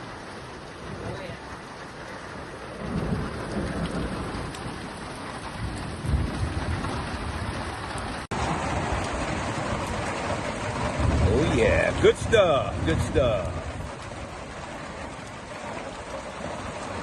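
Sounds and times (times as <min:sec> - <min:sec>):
heavy rain on a tin roof: 0:00.0 - 0:17.0
thunder rumbling: 0:00.0 - 0:17.0.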